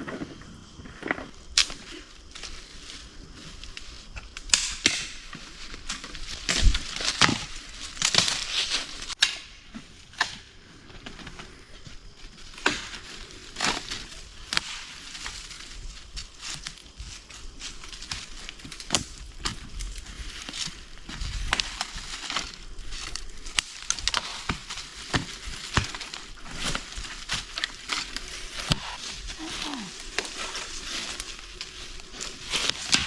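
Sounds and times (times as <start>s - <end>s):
dry twigs crunching and snapping: 1.3s - 9.5s, 10.1s - 33.0s.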